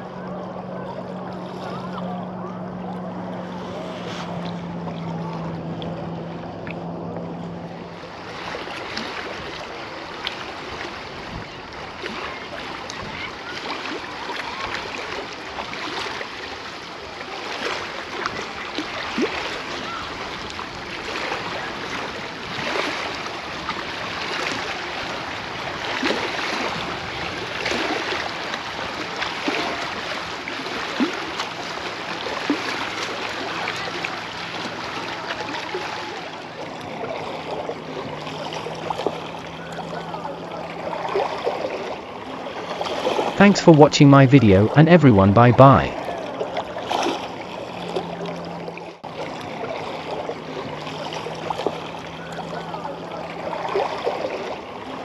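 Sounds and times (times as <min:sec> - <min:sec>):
small waves splashing on beach: 0:00.0 - 0:43.4, 0:45.6 - 0:55.0.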